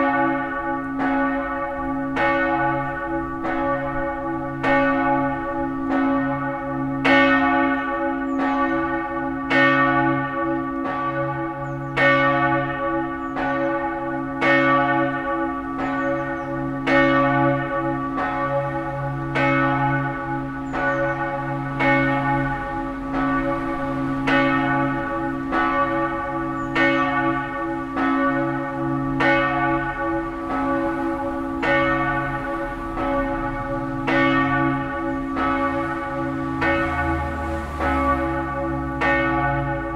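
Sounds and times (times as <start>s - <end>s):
church bells ringing: 0.0s - 39.9s
deep hum of large bells: 0.0s - 39.9s.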